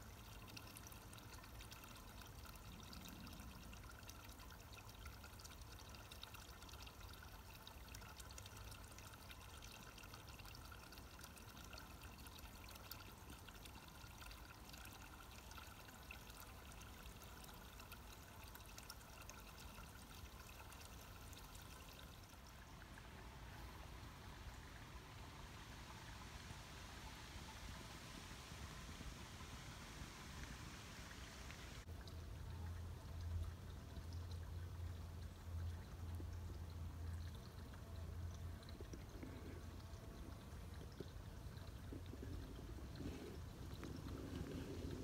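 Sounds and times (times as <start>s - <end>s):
water trickling into trough: 0.0s - 29.8s, 31.8s - 45.0s
low steady rumble: 0.0s - 45.0s.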